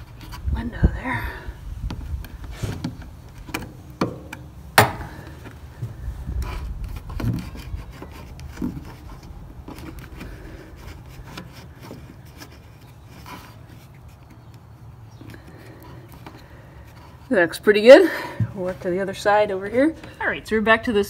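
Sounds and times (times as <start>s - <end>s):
rubber seal rubbing and scraping: 0.0s - 1.0s, 1.7s - 18.0s.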